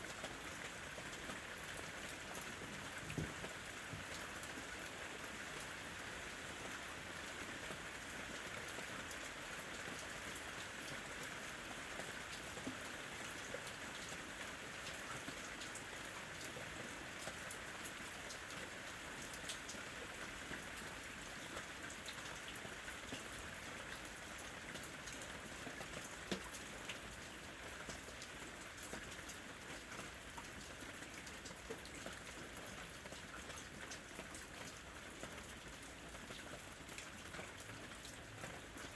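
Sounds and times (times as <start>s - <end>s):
raindrops ticking on a surface: 0.0s - 38.9s
steady rain hiss: 0.0s - 38.9s.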